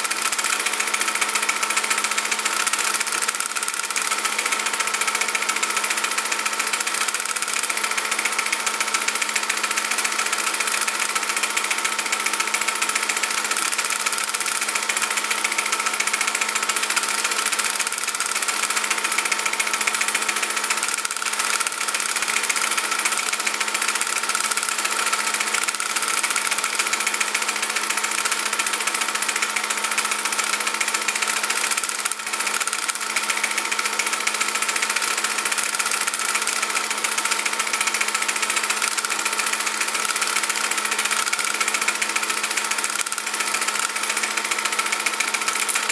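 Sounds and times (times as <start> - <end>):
small motor whirring: 0.0 - 45.9.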